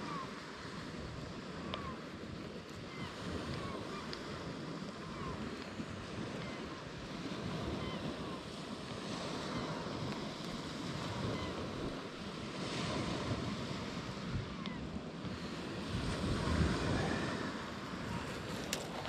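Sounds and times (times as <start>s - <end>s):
surf washing along beach: 0.0s - 19.0s
wind rushing over microphone: 0.0s - 19.0s.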